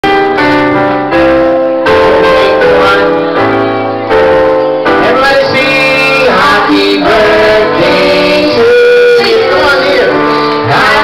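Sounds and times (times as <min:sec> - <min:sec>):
keyboard chords: 0:00.0 - 0:11.0.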